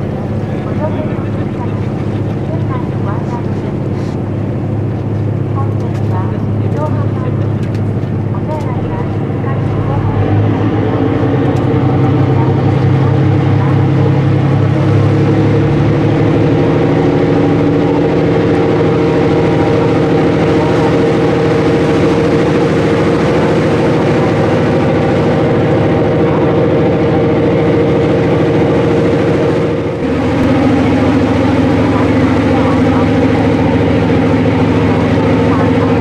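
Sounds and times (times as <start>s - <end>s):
boat engine running: 0.0s - 36.0s
water churning: 0.0s - 36.0s.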